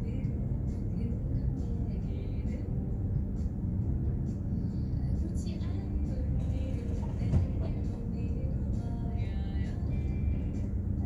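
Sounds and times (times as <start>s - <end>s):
faint music: 0.0s - 11.0s
ship engine rumble: 0.0s - 11.0s.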